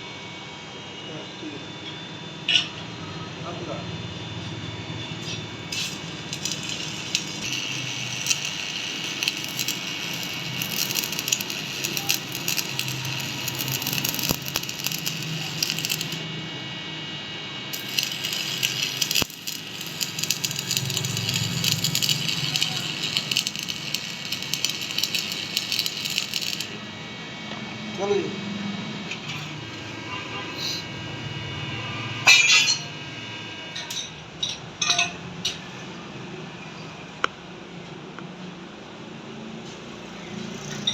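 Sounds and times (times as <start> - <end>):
lathe machine whine: 0.0 - 34.0.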